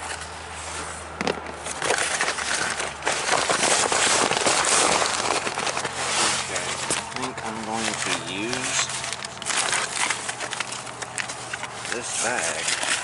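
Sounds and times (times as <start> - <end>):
parts rummaged in a box: 0.0 - 13.0.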